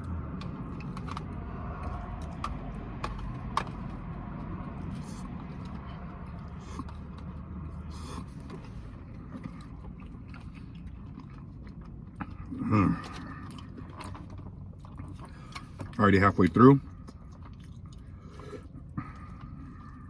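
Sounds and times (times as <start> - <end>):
eating noises: 0.0 - 20.0
steady low rumble: 0.0 - 20.0.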